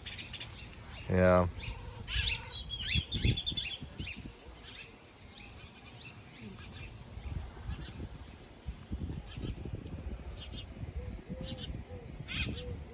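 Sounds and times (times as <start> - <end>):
birds chirping: 0.0 - 12.9
low wind rumble: 0.0 - 12.9.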